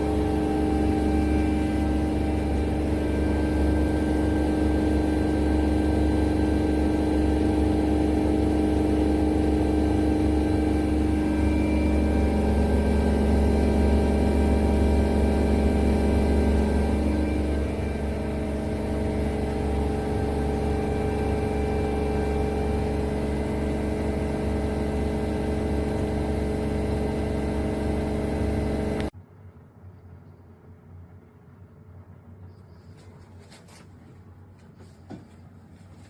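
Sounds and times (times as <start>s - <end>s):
mechanical hum with constant tones: 0.0s - 36.0s.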